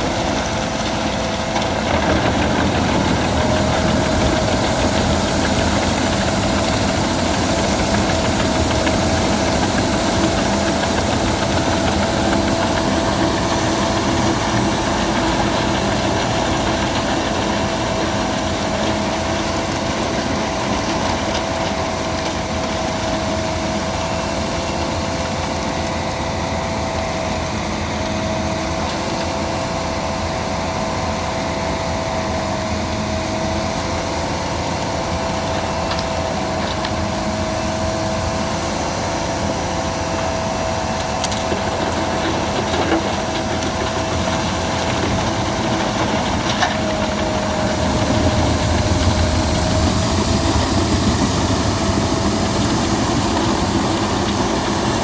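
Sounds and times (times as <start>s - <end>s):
wood chipper droning: 0.0s - 55.0s.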